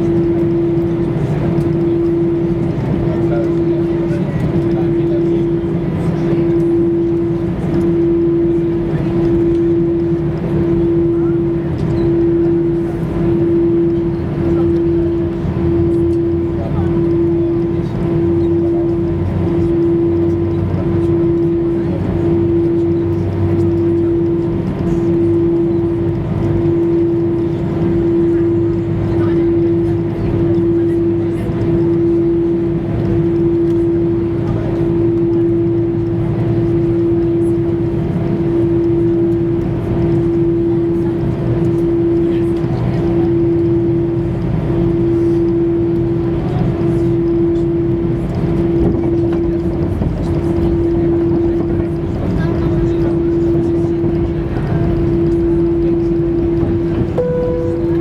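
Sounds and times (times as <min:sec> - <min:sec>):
airliner cabin droning hum: 0:00.0 - 0:58.0
jet engine low rumble: 0:00.0 - 0:58.0.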